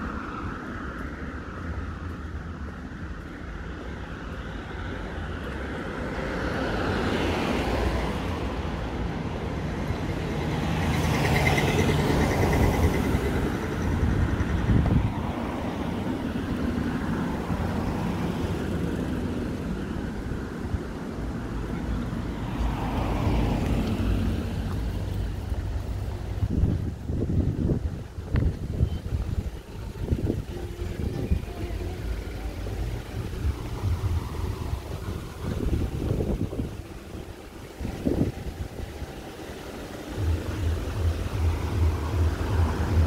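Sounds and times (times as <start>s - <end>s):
cars passing on street: 0.0s - 43.0s.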